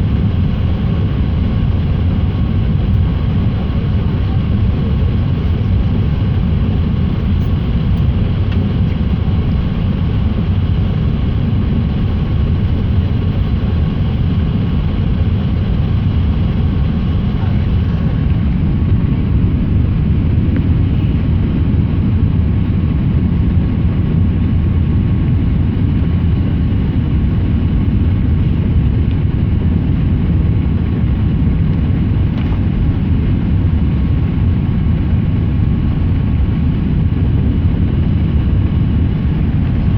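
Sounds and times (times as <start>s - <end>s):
low rumble of engines and airflow: 0.0s - 39.9s.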